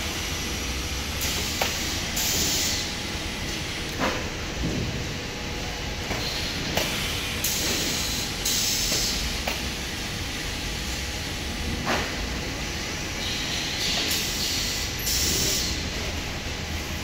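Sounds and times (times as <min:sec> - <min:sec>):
conveyor machine noise: 0:00.0 - 0:17.0.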